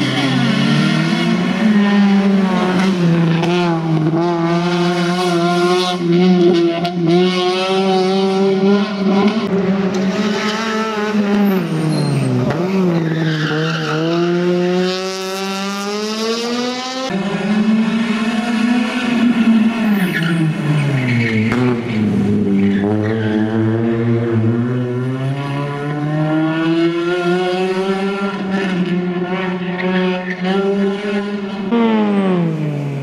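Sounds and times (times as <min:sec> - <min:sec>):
rally car engine revving high: 0:00.0 - 0:33.0.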